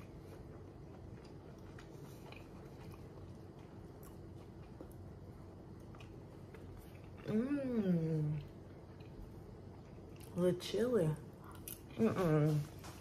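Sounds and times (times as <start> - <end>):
chewing food: 0.0 - 13.0
low steady hum: 0.0 - 13.0.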